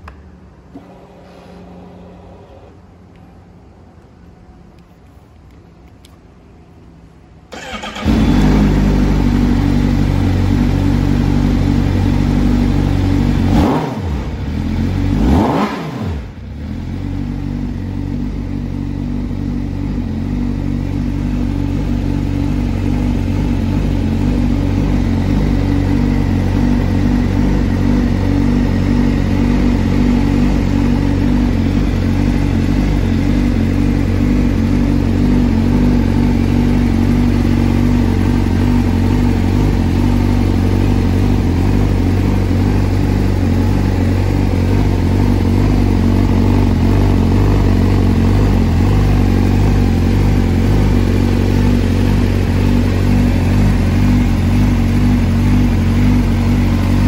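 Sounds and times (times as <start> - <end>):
motorcycle engine starting and idling: 0.0 - 4.9, 5.5 - 57.0
engine revving: 7.5 - 57.0.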